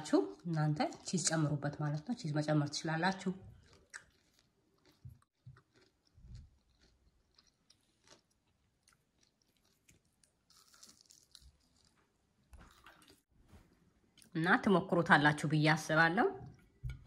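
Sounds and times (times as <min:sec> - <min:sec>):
faint chewing of crisp food: 0:00.1 - 0:14.4.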